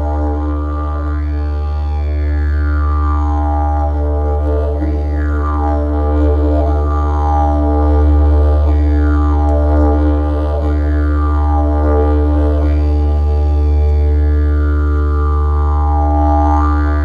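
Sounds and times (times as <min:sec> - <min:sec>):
low drone music: 0:00.0 - 0:17.0.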